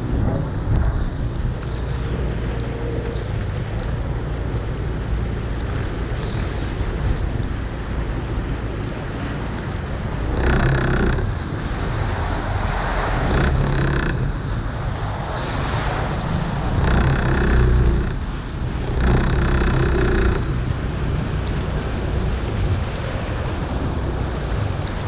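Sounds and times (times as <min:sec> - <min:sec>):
rushing flood water: 0:00.0 - 0:25.0
vehicle engines passing: 0:00.0 - 0:25.0.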